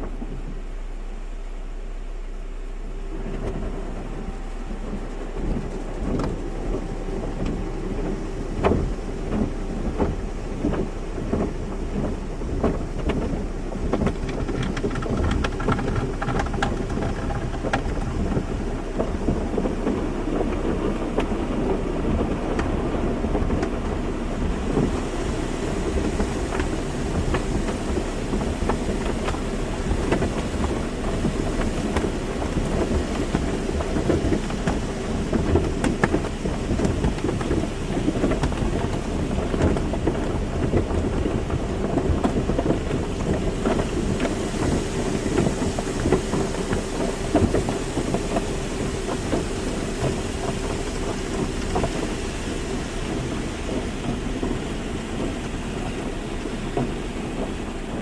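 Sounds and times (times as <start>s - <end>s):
wash machinery hum: 0.0s - 58.0s
water spray drumming on car: 0.0s - 58.0s.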